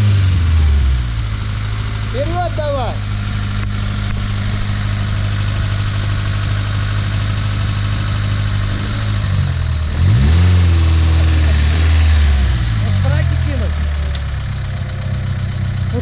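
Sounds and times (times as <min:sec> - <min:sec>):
vehicle engine idling and revving: 0:00.0 - 0:16.0.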